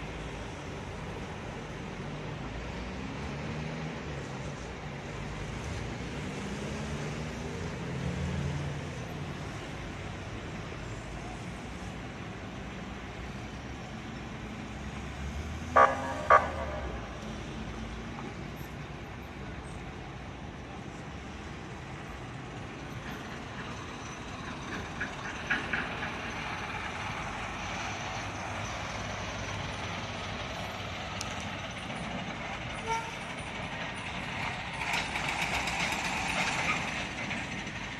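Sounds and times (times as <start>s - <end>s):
heavy truck passing: 0.0s - 37.9s
street traffic: 0.0s - 37.9s.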